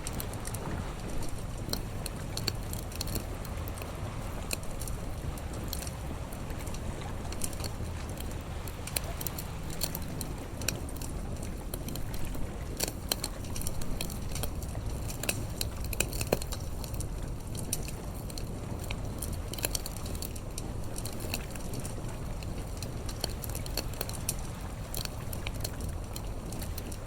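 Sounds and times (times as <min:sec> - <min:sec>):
campfire crackling and popping: 0:00.0 - 0:27.0
steady low rumble: 0:00.0 - 0:27.0.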